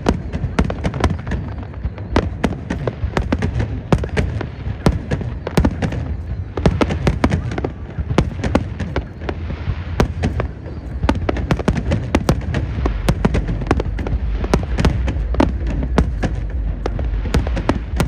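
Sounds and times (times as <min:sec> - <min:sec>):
fireworks bangs and crackling: 0:00.0 - 0:18.0
low rumble: 0:00.0 - 0:18.0.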